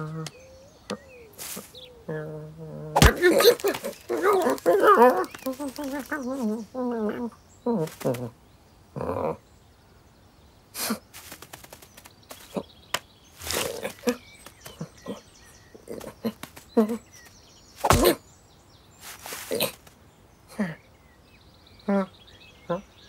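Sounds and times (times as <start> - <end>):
faint birdsong chirps: 0.0 - 23.0.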